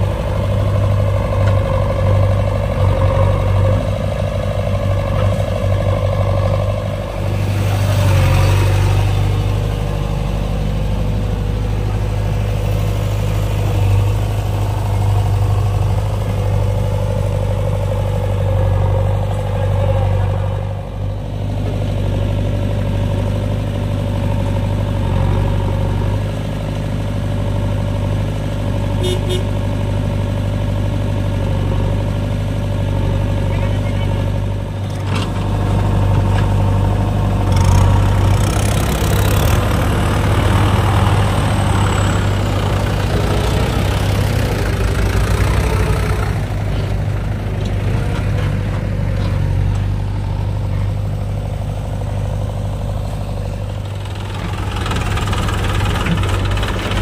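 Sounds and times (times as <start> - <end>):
diesel engines droning: 0.0 - 57.0.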